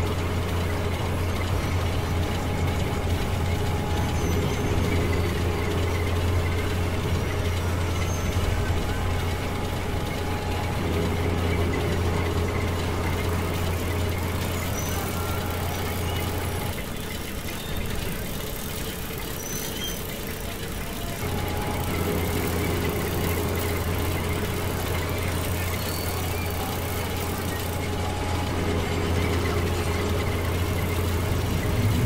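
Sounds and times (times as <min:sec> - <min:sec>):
low engine-like hum: 0:00.0 - 0:32.0.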